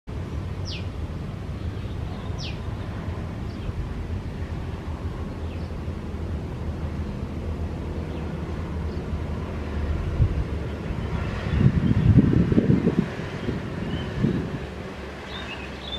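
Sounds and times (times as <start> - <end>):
low outdoor rumble: 0.1 - 15.9.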